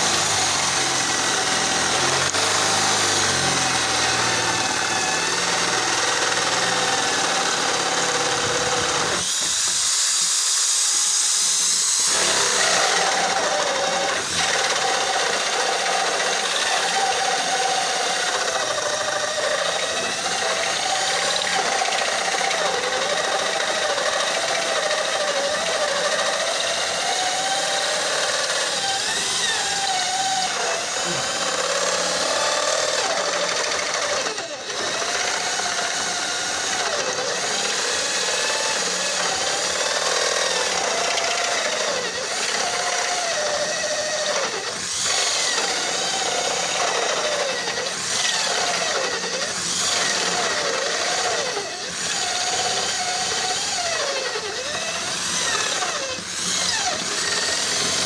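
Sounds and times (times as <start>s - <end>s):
electric drill boring: 0.0s - 58.0s.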